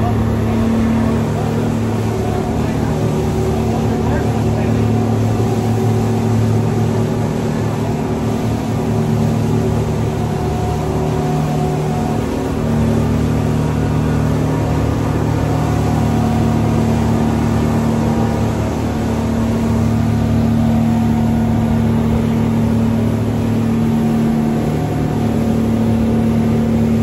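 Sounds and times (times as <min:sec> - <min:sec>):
speedboat engines droning: 0:00.0 - 0:27.0.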